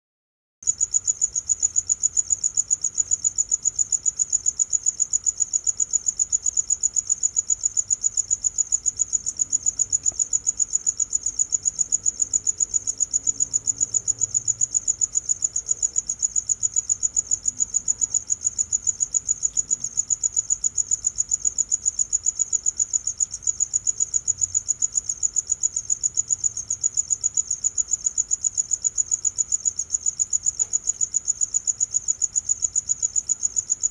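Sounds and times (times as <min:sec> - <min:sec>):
cricket chirping: 0:00.6 - 0:33.9.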